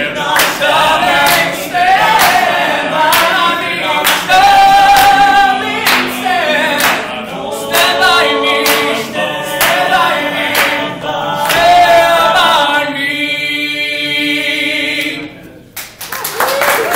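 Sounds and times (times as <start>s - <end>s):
a cappella group singing: 0.0s - 15.8s.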